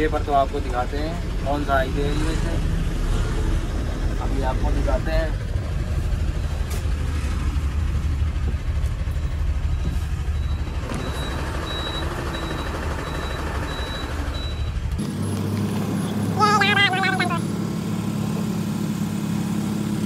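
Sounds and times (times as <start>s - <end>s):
diesel truck engine rumble: 0.0s - 20.0s
road noise: 0.0s - 20.0s.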